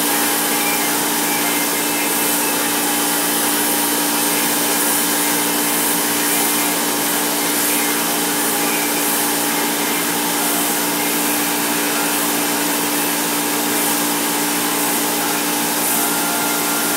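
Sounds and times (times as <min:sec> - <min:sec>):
paint spray gun hissing: 0:00.0 - 0:16.9
steady hum: 0:00.0 - 0:16.9.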